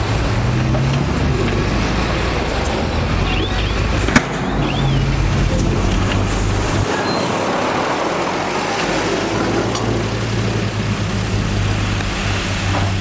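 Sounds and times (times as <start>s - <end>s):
broad mechanical noise: 0.0s - 13.0s
diesel engine rumbling: 0.0s - 13.0s.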